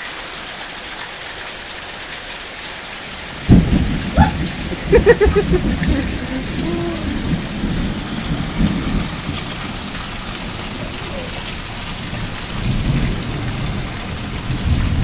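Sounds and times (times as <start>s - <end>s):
heavy rain falling: 0.0s - 15.0s
water gushing from drain pipe: 0.0s - 15.0s.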